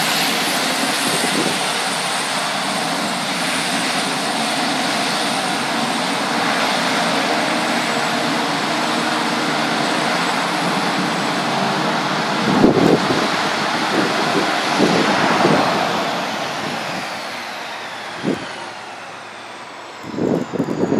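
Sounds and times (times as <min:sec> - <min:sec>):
turboprop engine and propeller running: 0:00.0 - 0:20.9.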